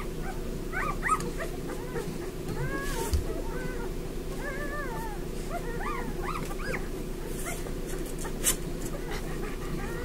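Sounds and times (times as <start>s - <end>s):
puppies whimpering and squeaking: 0.0s - 10.0s
steady low hum: 0.0s - 10.0s.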